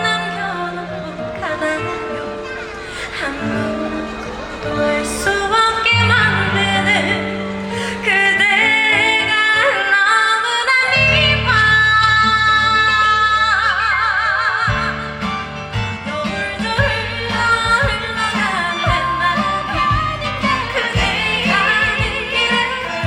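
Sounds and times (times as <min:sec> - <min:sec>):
woman singing: 0:00.0 - 0:15.4, 0:16.0 - 0:23.0
instrumental accompaniment: 0:00.0 - 0:23.0.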